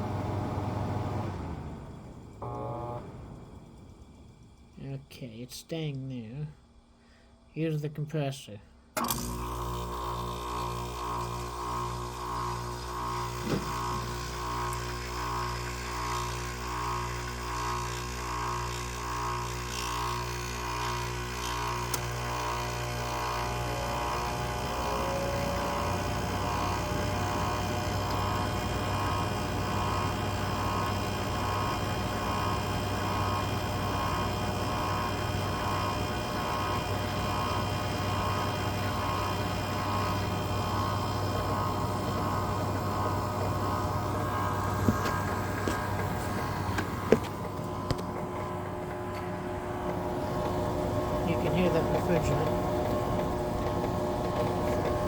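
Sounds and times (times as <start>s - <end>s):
air conditioner humming with whine: 0.0s - 15.2s, 20.6s - 55.0s.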